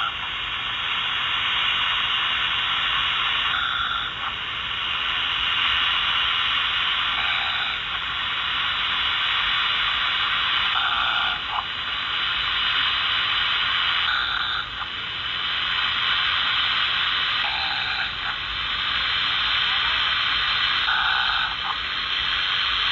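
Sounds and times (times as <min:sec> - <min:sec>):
radio static hiss: 0:00.0 - 0:22.9.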